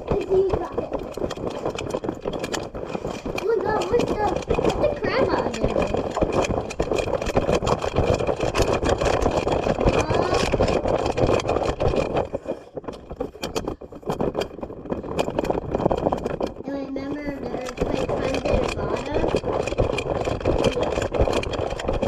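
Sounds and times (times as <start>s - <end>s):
plastic tiles rattling: 0.0s - 22.0s.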